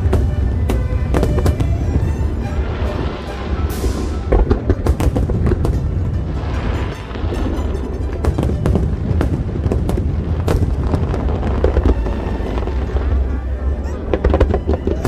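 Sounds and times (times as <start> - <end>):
fireworks bangs and crackles: 0.0 - 15.0
low rumble: 0.0 - 15.0
music playing: 0.0 - 15.0.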